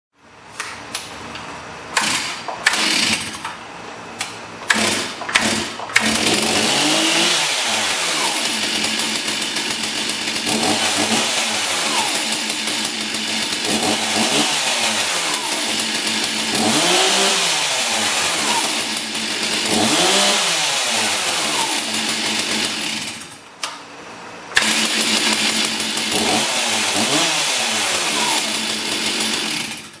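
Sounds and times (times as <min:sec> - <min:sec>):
chainsaw revving: 0:02.0 - 0:03.5, 0:04.6 - 0:23.5, 0:24.5 - 0:30.0.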